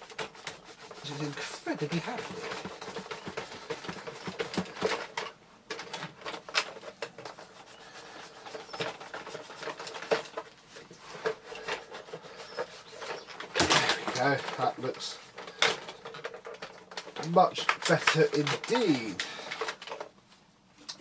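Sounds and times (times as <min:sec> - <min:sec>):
scrubbing strokes on plastic: 0:00.0 - 0:19.5.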